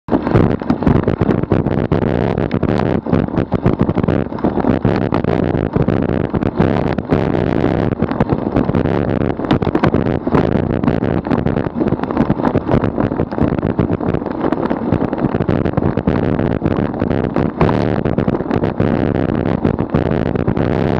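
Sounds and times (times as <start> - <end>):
bicycle tyre road noise: 0.1 - 20.9
wind rushing over microphone: 0.1 - 20.9.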